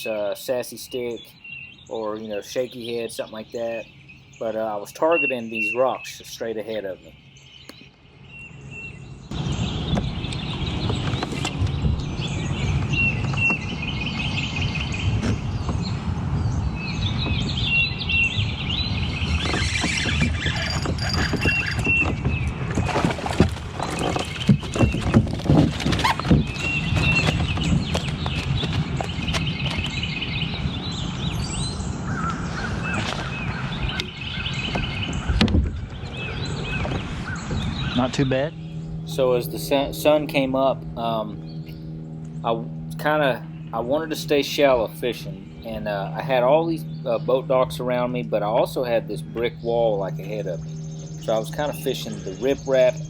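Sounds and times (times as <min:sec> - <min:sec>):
birds chirping and trilling: 0:00.0 - 0:53.0
steady low rumble: 0:00.0 - 0:53.0.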